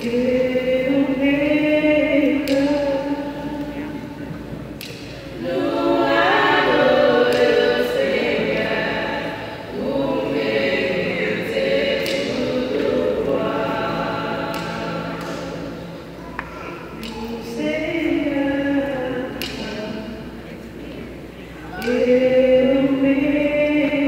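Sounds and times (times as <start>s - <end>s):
women's group singing in harmony: 0.0s - 4.2s, 4.8s - 16.2s, 17.0s - 24.0s.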